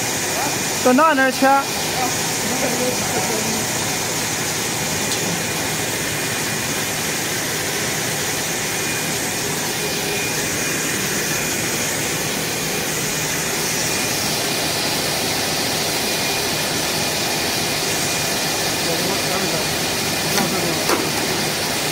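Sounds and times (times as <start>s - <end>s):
machine whir and hiss: 0.0s - 21.9s.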